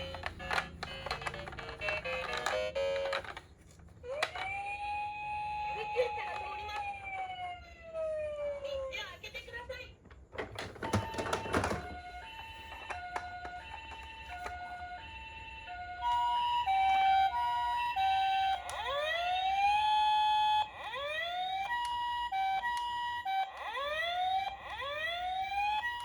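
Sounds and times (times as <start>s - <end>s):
toy ambulance electronic siren: 0.0s - 3.4s, 4.1s - 8.9s, 10.6s - 26.0s.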